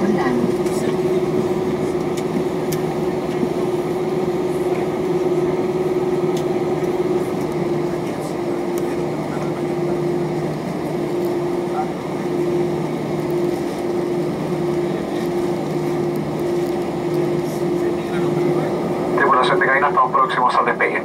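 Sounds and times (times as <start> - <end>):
constant mid-pitched tone: 0.0 - 21.0
jet engines humming: 0.0 - 21.0.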